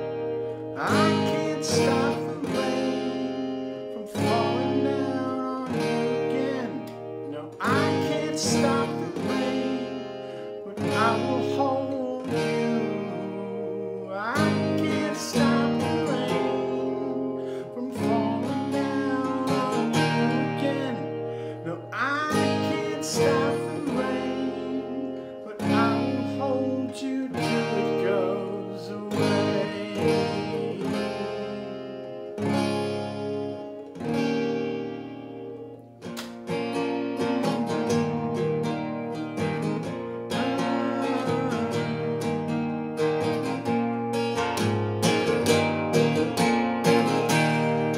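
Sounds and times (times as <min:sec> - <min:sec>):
acoustic guitar strumming: 0:00.0 - 0:47.9
man singing: 0:00.6 - 0:34.1, 0:39.2 - 0:47.9.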